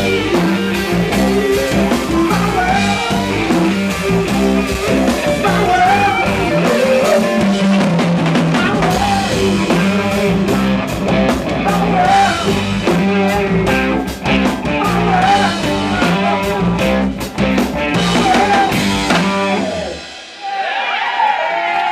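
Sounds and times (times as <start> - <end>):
bass guitar: 0.0 - 20.2
electric guitar: 0.0 - 20.2
drum kit with cymbal hits: 0.0 - 21.8.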